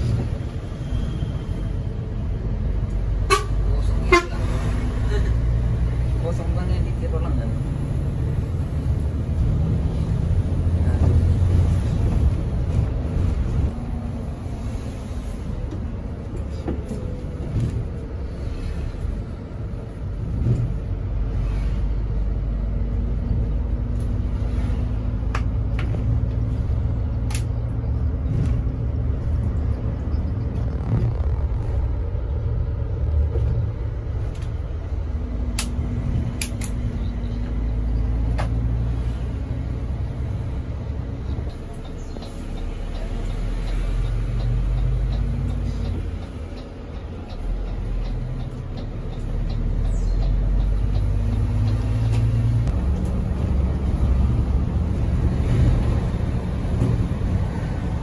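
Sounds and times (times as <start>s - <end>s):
bus engine and tyres rumbling: 0.0s - 58.0s.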